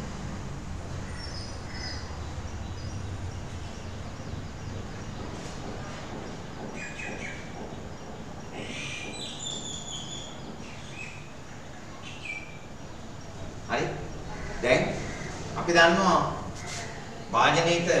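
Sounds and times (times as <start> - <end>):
birds chirping: 0.0 - 18.0
low background hum: 0.0 - 18.0.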